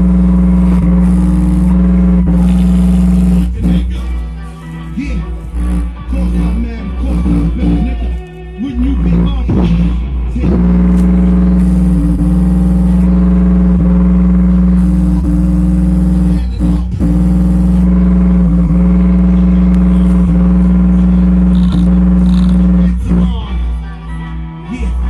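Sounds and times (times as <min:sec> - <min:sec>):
subwoofer deep bass drone: 0:00.0 - 0:23.8.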